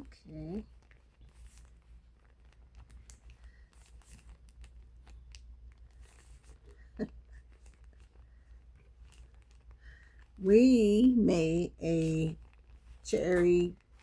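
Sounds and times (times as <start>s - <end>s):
crackles from hands working dough: 0.0s - 14.0s
steady low hum: 0.0s - 14.0s.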